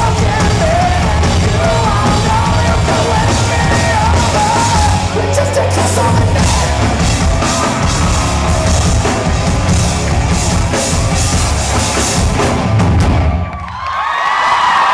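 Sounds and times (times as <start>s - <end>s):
drum kit with cymbals: 0.0s - 13.4s.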